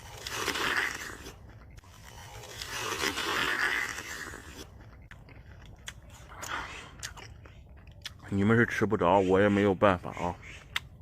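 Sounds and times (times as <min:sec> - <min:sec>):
wet crunchy chewing: 0:00.0 - 0:09.5
biting into a pear: 0:00.0 - 0:09.7, 0:10.6 - 0:11.0.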